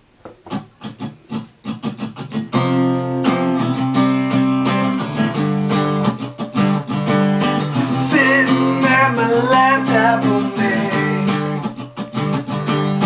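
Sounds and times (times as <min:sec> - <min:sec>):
acoustic guitar strumming: 0:00.5 - 0:13.0.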